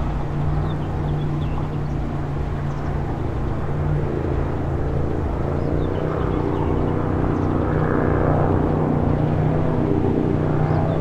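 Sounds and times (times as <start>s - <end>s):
jet engines rumbling overhead: 0.0s - 11.0s.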